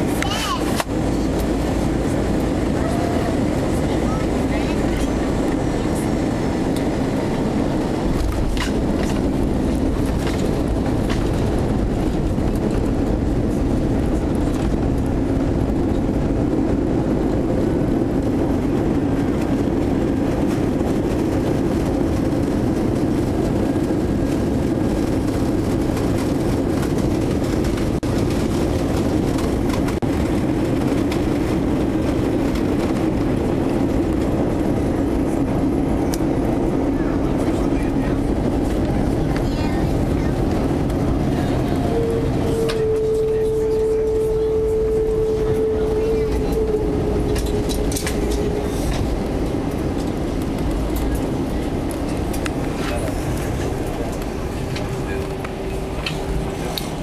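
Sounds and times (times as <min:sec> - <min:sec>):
aircraft engine noise: 0:00.0 - 0:57.0
wheels rumbling over pavement: 0:00.0 - 0:57.0.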